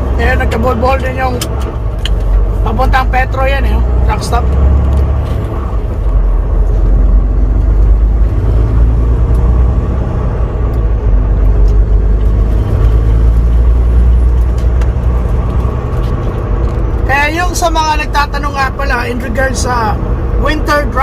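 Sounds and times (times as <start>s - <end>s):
road noise: 0.0s - 21.0s
truck diesel engine drone: 0.0s - 21.0s.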